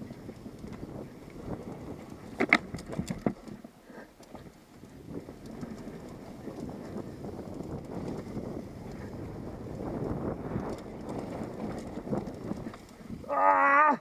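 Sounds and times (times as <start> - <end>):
wind on microphone: 0.0 - 3.6, 4.4 - 13.9
bike clattering over rough ground: 0.0 - 13.6
bike tyre rumble on dirt: 0.0 - 14.0.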